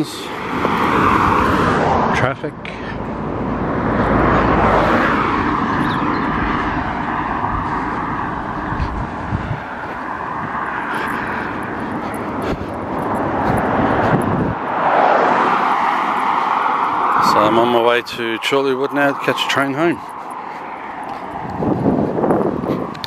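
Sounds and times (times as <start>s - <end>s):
road traffic passing: 0.0s - 23.0s
wind rumbling on microphone: 3.1s - 23.0s.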